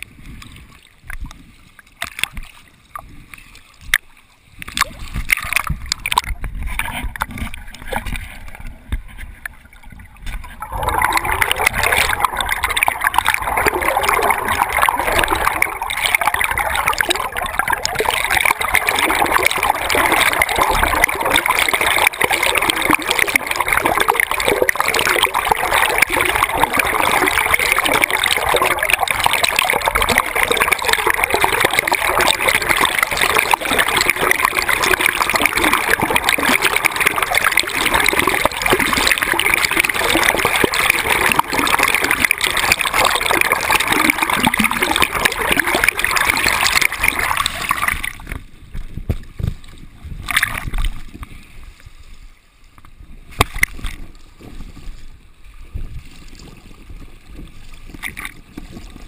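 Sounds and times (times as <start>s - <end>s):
river water rushing underwater: 0.0s - 59.0s.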